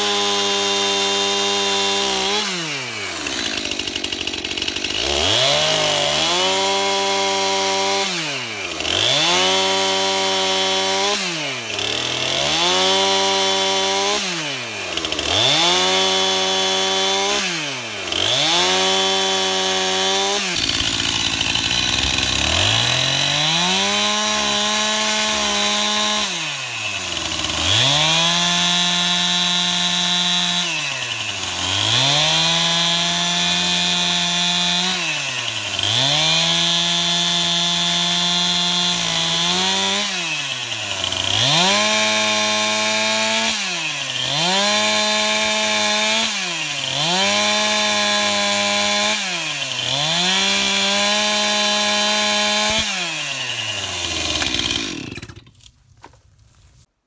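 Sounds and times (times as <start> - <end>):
chainsaw cutting log: 0.0 - 56.8.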